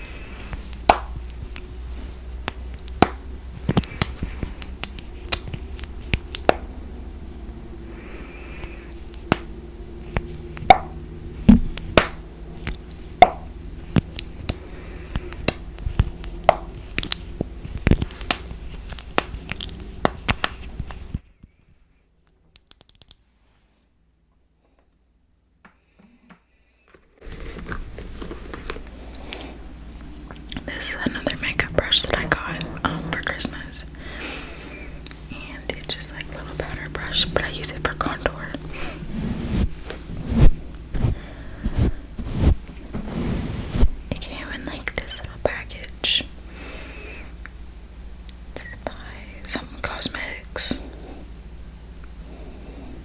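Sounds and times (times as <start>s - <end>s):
steady low hum: 0.0s - 21.2s, 27.2s - 53.0s.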